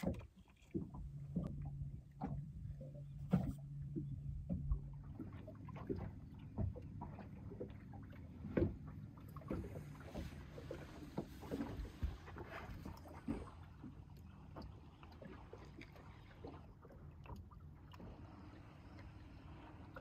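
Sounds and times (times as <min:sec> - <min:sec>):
low steady hum: 0:00.0 - 0:20.0
water slapping against hull: 0:00.0 - 0:20.0.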